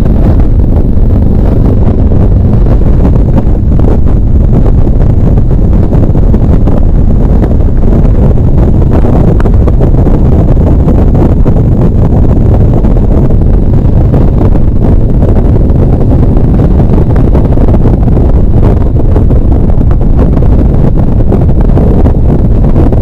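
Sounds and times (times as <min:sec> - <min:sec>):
motorcycle engine rumble: 0:00.0 - 0:23.0
wind buffeting on microphone: 0:00.0 - 0:23.0.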